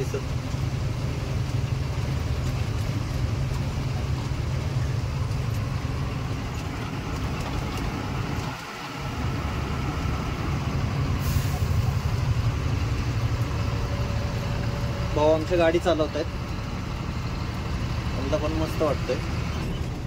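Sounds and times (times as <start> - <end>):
truck engine driving: 0.0 - 20.0.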